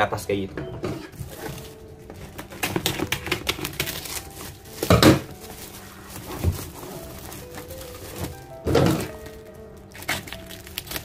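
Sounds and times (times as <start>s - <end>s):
plastic crinkling: 1.2s - 11.0s.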